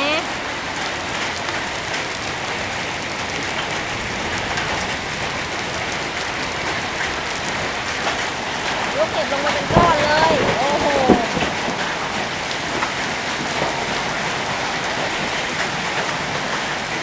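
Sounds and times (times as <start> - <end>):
hail ticking on hard surfaces: 0.0 - 17.0
heavy rain: 0.0 - 17.0.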